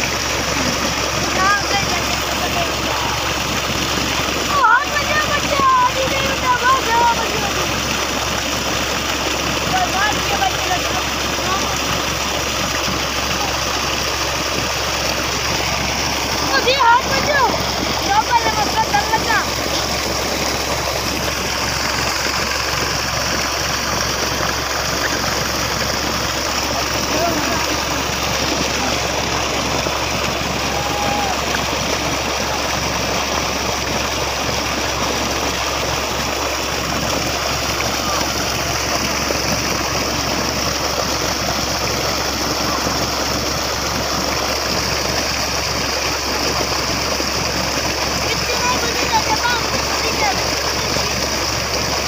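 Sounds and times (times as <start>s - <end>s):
engine running: 0.0s - 52.0s
water gushing into a pond: 0.0s - 52.0s.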